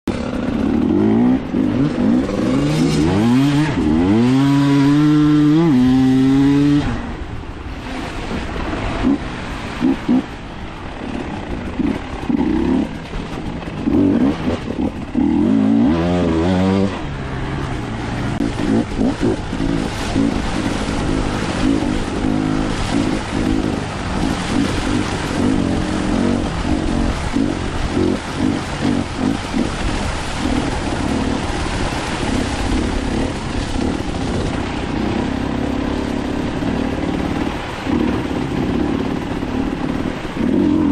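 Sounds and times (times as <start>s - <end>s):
constant rushing noise: 0.0s - 40.9s
dirt bike engine revving: 0.1s - 7.2s, 8.7s - 40.9s.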